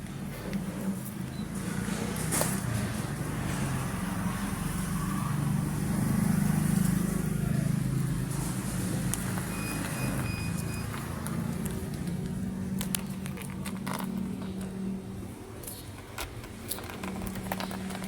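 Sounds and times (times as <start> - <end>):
motor vehicle rumbling: 0.0 - 18.0.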